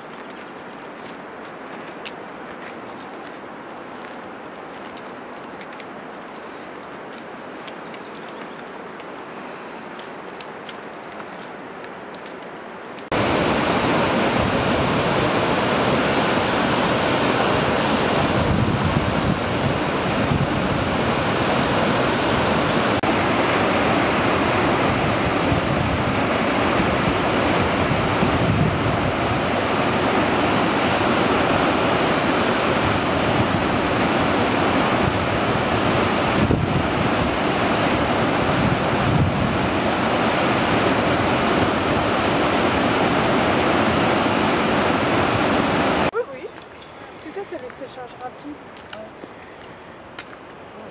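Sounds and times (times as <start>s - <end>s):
mountain torrent rushing: 0.0s - 50.9s.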